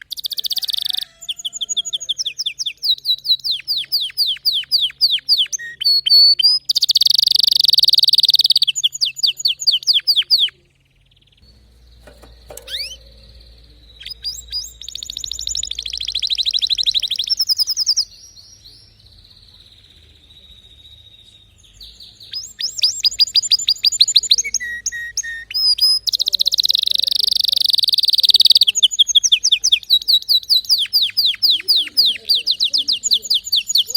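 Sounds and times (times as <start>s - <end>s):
canary singing: 0.0s - 33.9s.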